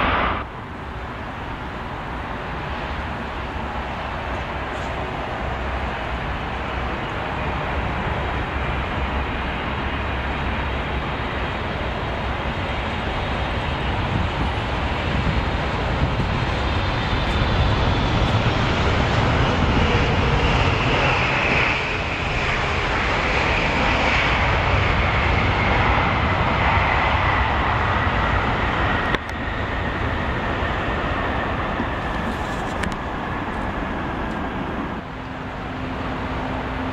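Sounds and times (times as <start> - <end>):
jet engine whine: 0.0 - 36.9
jet engines rumbling: 0.0 - 36.9.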